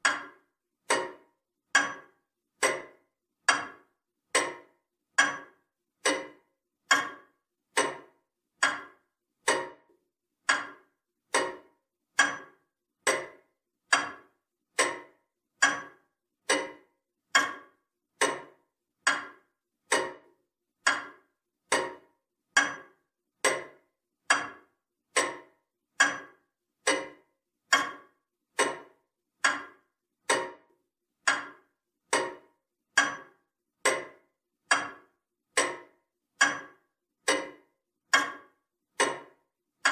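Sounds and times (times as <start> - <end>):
pendulum clock ticking: 0.0 - 39.9.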